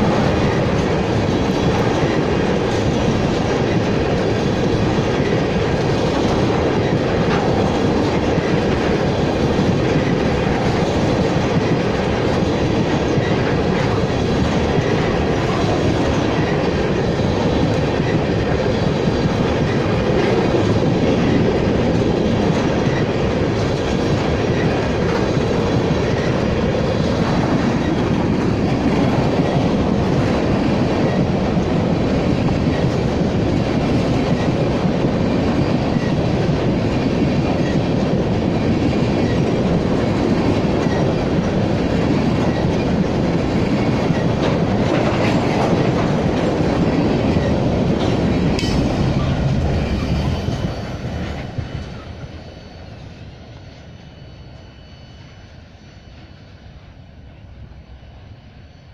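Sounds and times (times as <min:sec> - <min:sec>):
freight train wheels on rail: 0:00.0 - 0:58.9.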